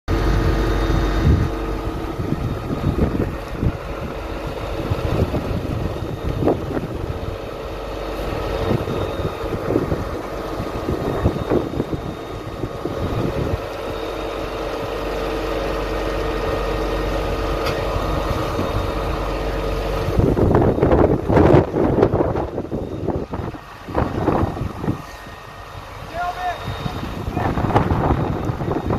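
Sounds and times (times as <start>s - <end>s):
fire engine pump running: 0.0s - 28.9s
wind rumble on microphone: 0.1s - 14.0s, 16.4s - 28.9s.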